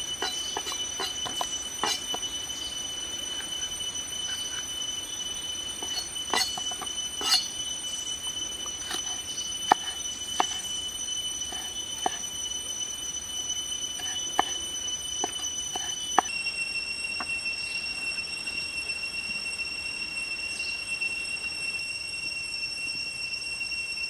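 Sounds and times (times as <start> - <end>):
high-pitched drone: 0.0 - 24.0.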